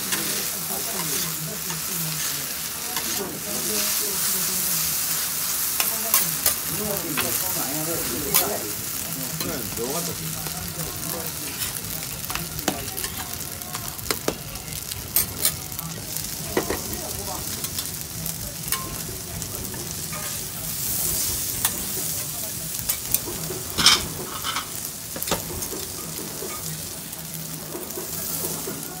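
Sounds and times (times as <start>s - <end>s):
food sizzling on a griddle: 0.0s - 29.0s.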